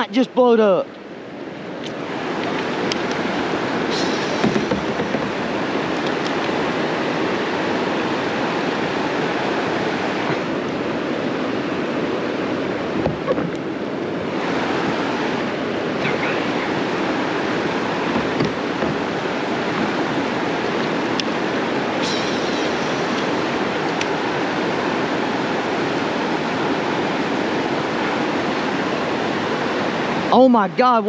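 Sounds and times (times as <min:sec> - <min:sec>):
creek water rushing over rapids: 0:00.0 - 0:31.0.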